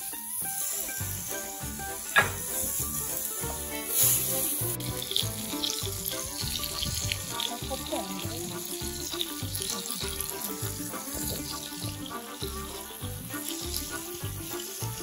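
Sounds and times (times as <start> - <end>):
background music with a beat: 0.0 - 15.0
meat sizzling on a griddle: 0.0 - 15.0.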